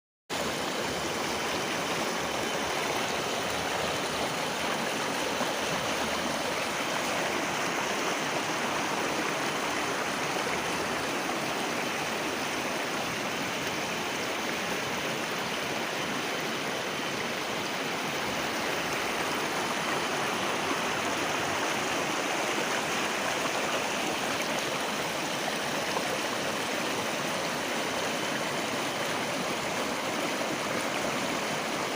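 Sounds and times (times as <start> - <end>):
river water rushing over rocks: 0.4 - 31.9.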